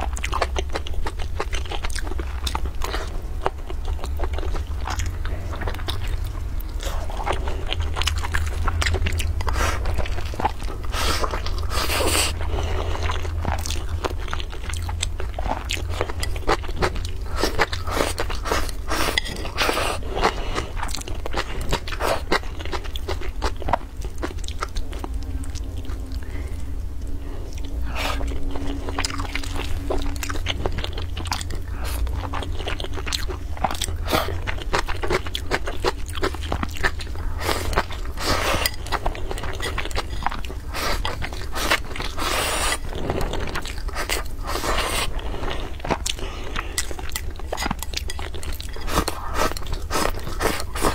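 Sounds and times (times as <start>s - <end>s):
chewing and crunching food: 0.0s - 50.9s
steady low hum: 0.0s - 50.9s.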